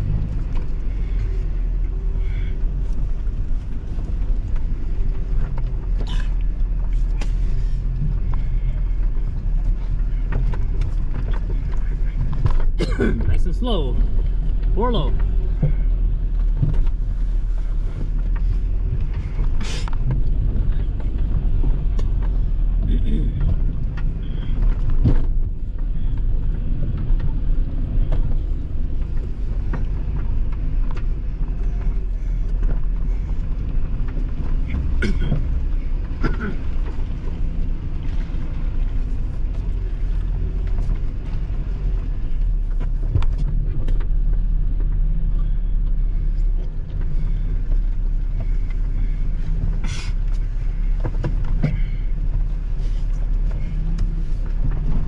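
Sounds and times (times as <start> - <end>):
truck engine rumble: 0.0 - 55.0.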